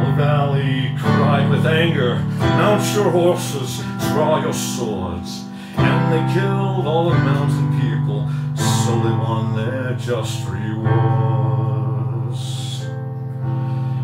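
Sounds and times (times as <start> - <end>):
man singing: 0.0 - 13.2
electronic keyboard chords: 0.0 - 14.0.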